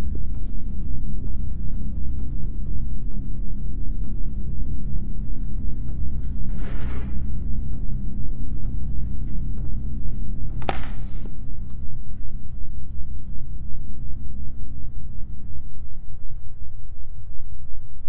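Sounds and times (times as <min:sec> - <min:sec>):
ominous low drone pulsing: 0:00.0 - 0:18.0.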